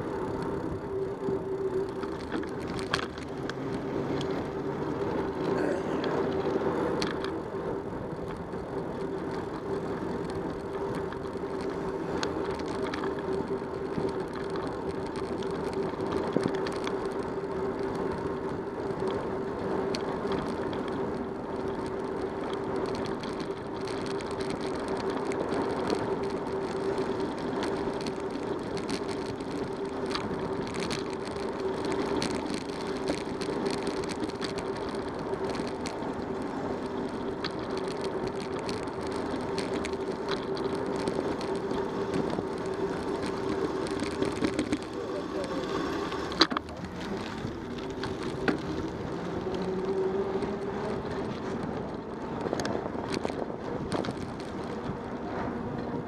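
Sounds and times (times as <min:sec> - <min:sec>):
bike rattles and clicks: 0:00.0 - 0:56.0
tyres rolling on asphalt: 0:00.0 - 0:56.0.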